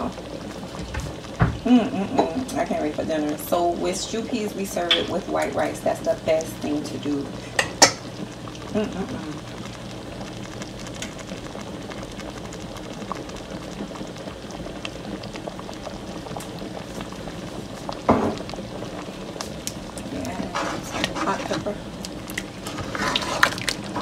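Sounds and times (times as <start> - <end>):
stew bubbling and popping: 0.0 - 24.0.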